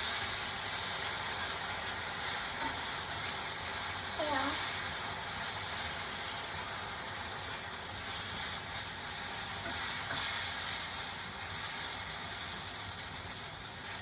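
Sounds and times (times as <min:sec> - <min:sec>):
fruit sizzling in caramel: 0:00.0 - 0:14.0.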